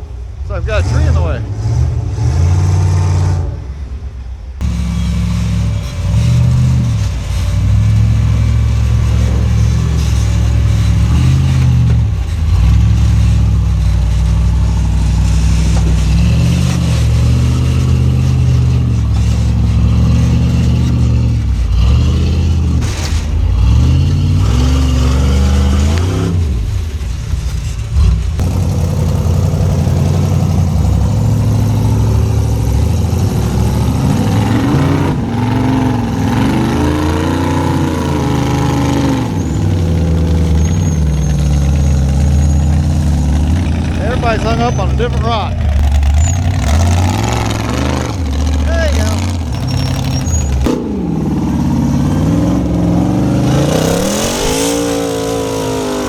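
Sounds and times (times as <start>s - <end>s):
engine revving in bursts: 0.0s - 3.9s, 4.6s - 27.0s, 27.9s - 56.0s.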